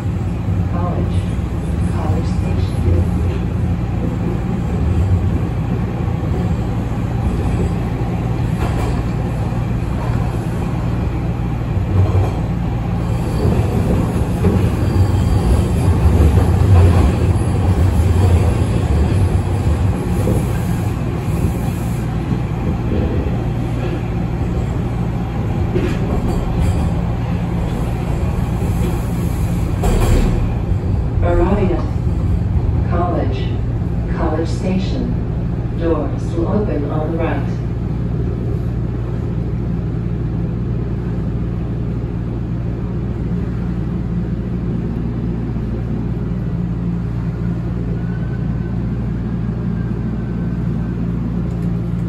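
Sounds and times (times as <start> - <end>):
subway train rumbling in tunnel: 0.0 - 52.0.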